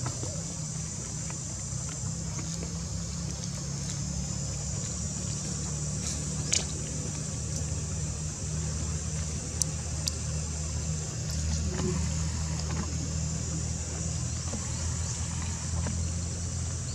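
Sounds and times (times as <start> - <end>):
low engine-like hum: 0.0 - 16.9.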